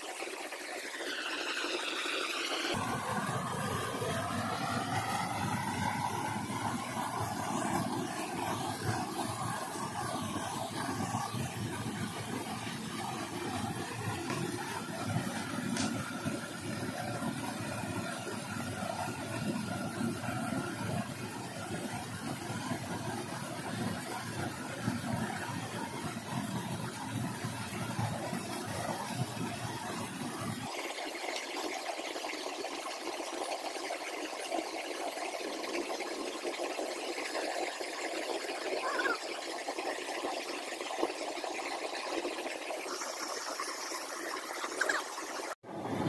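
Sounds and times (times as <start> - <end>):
small cascade: 0.0 - 46.0
small waterfall splashing: 0.0 - 46.0
stream flowing over rocks: 0.0 - 46.0.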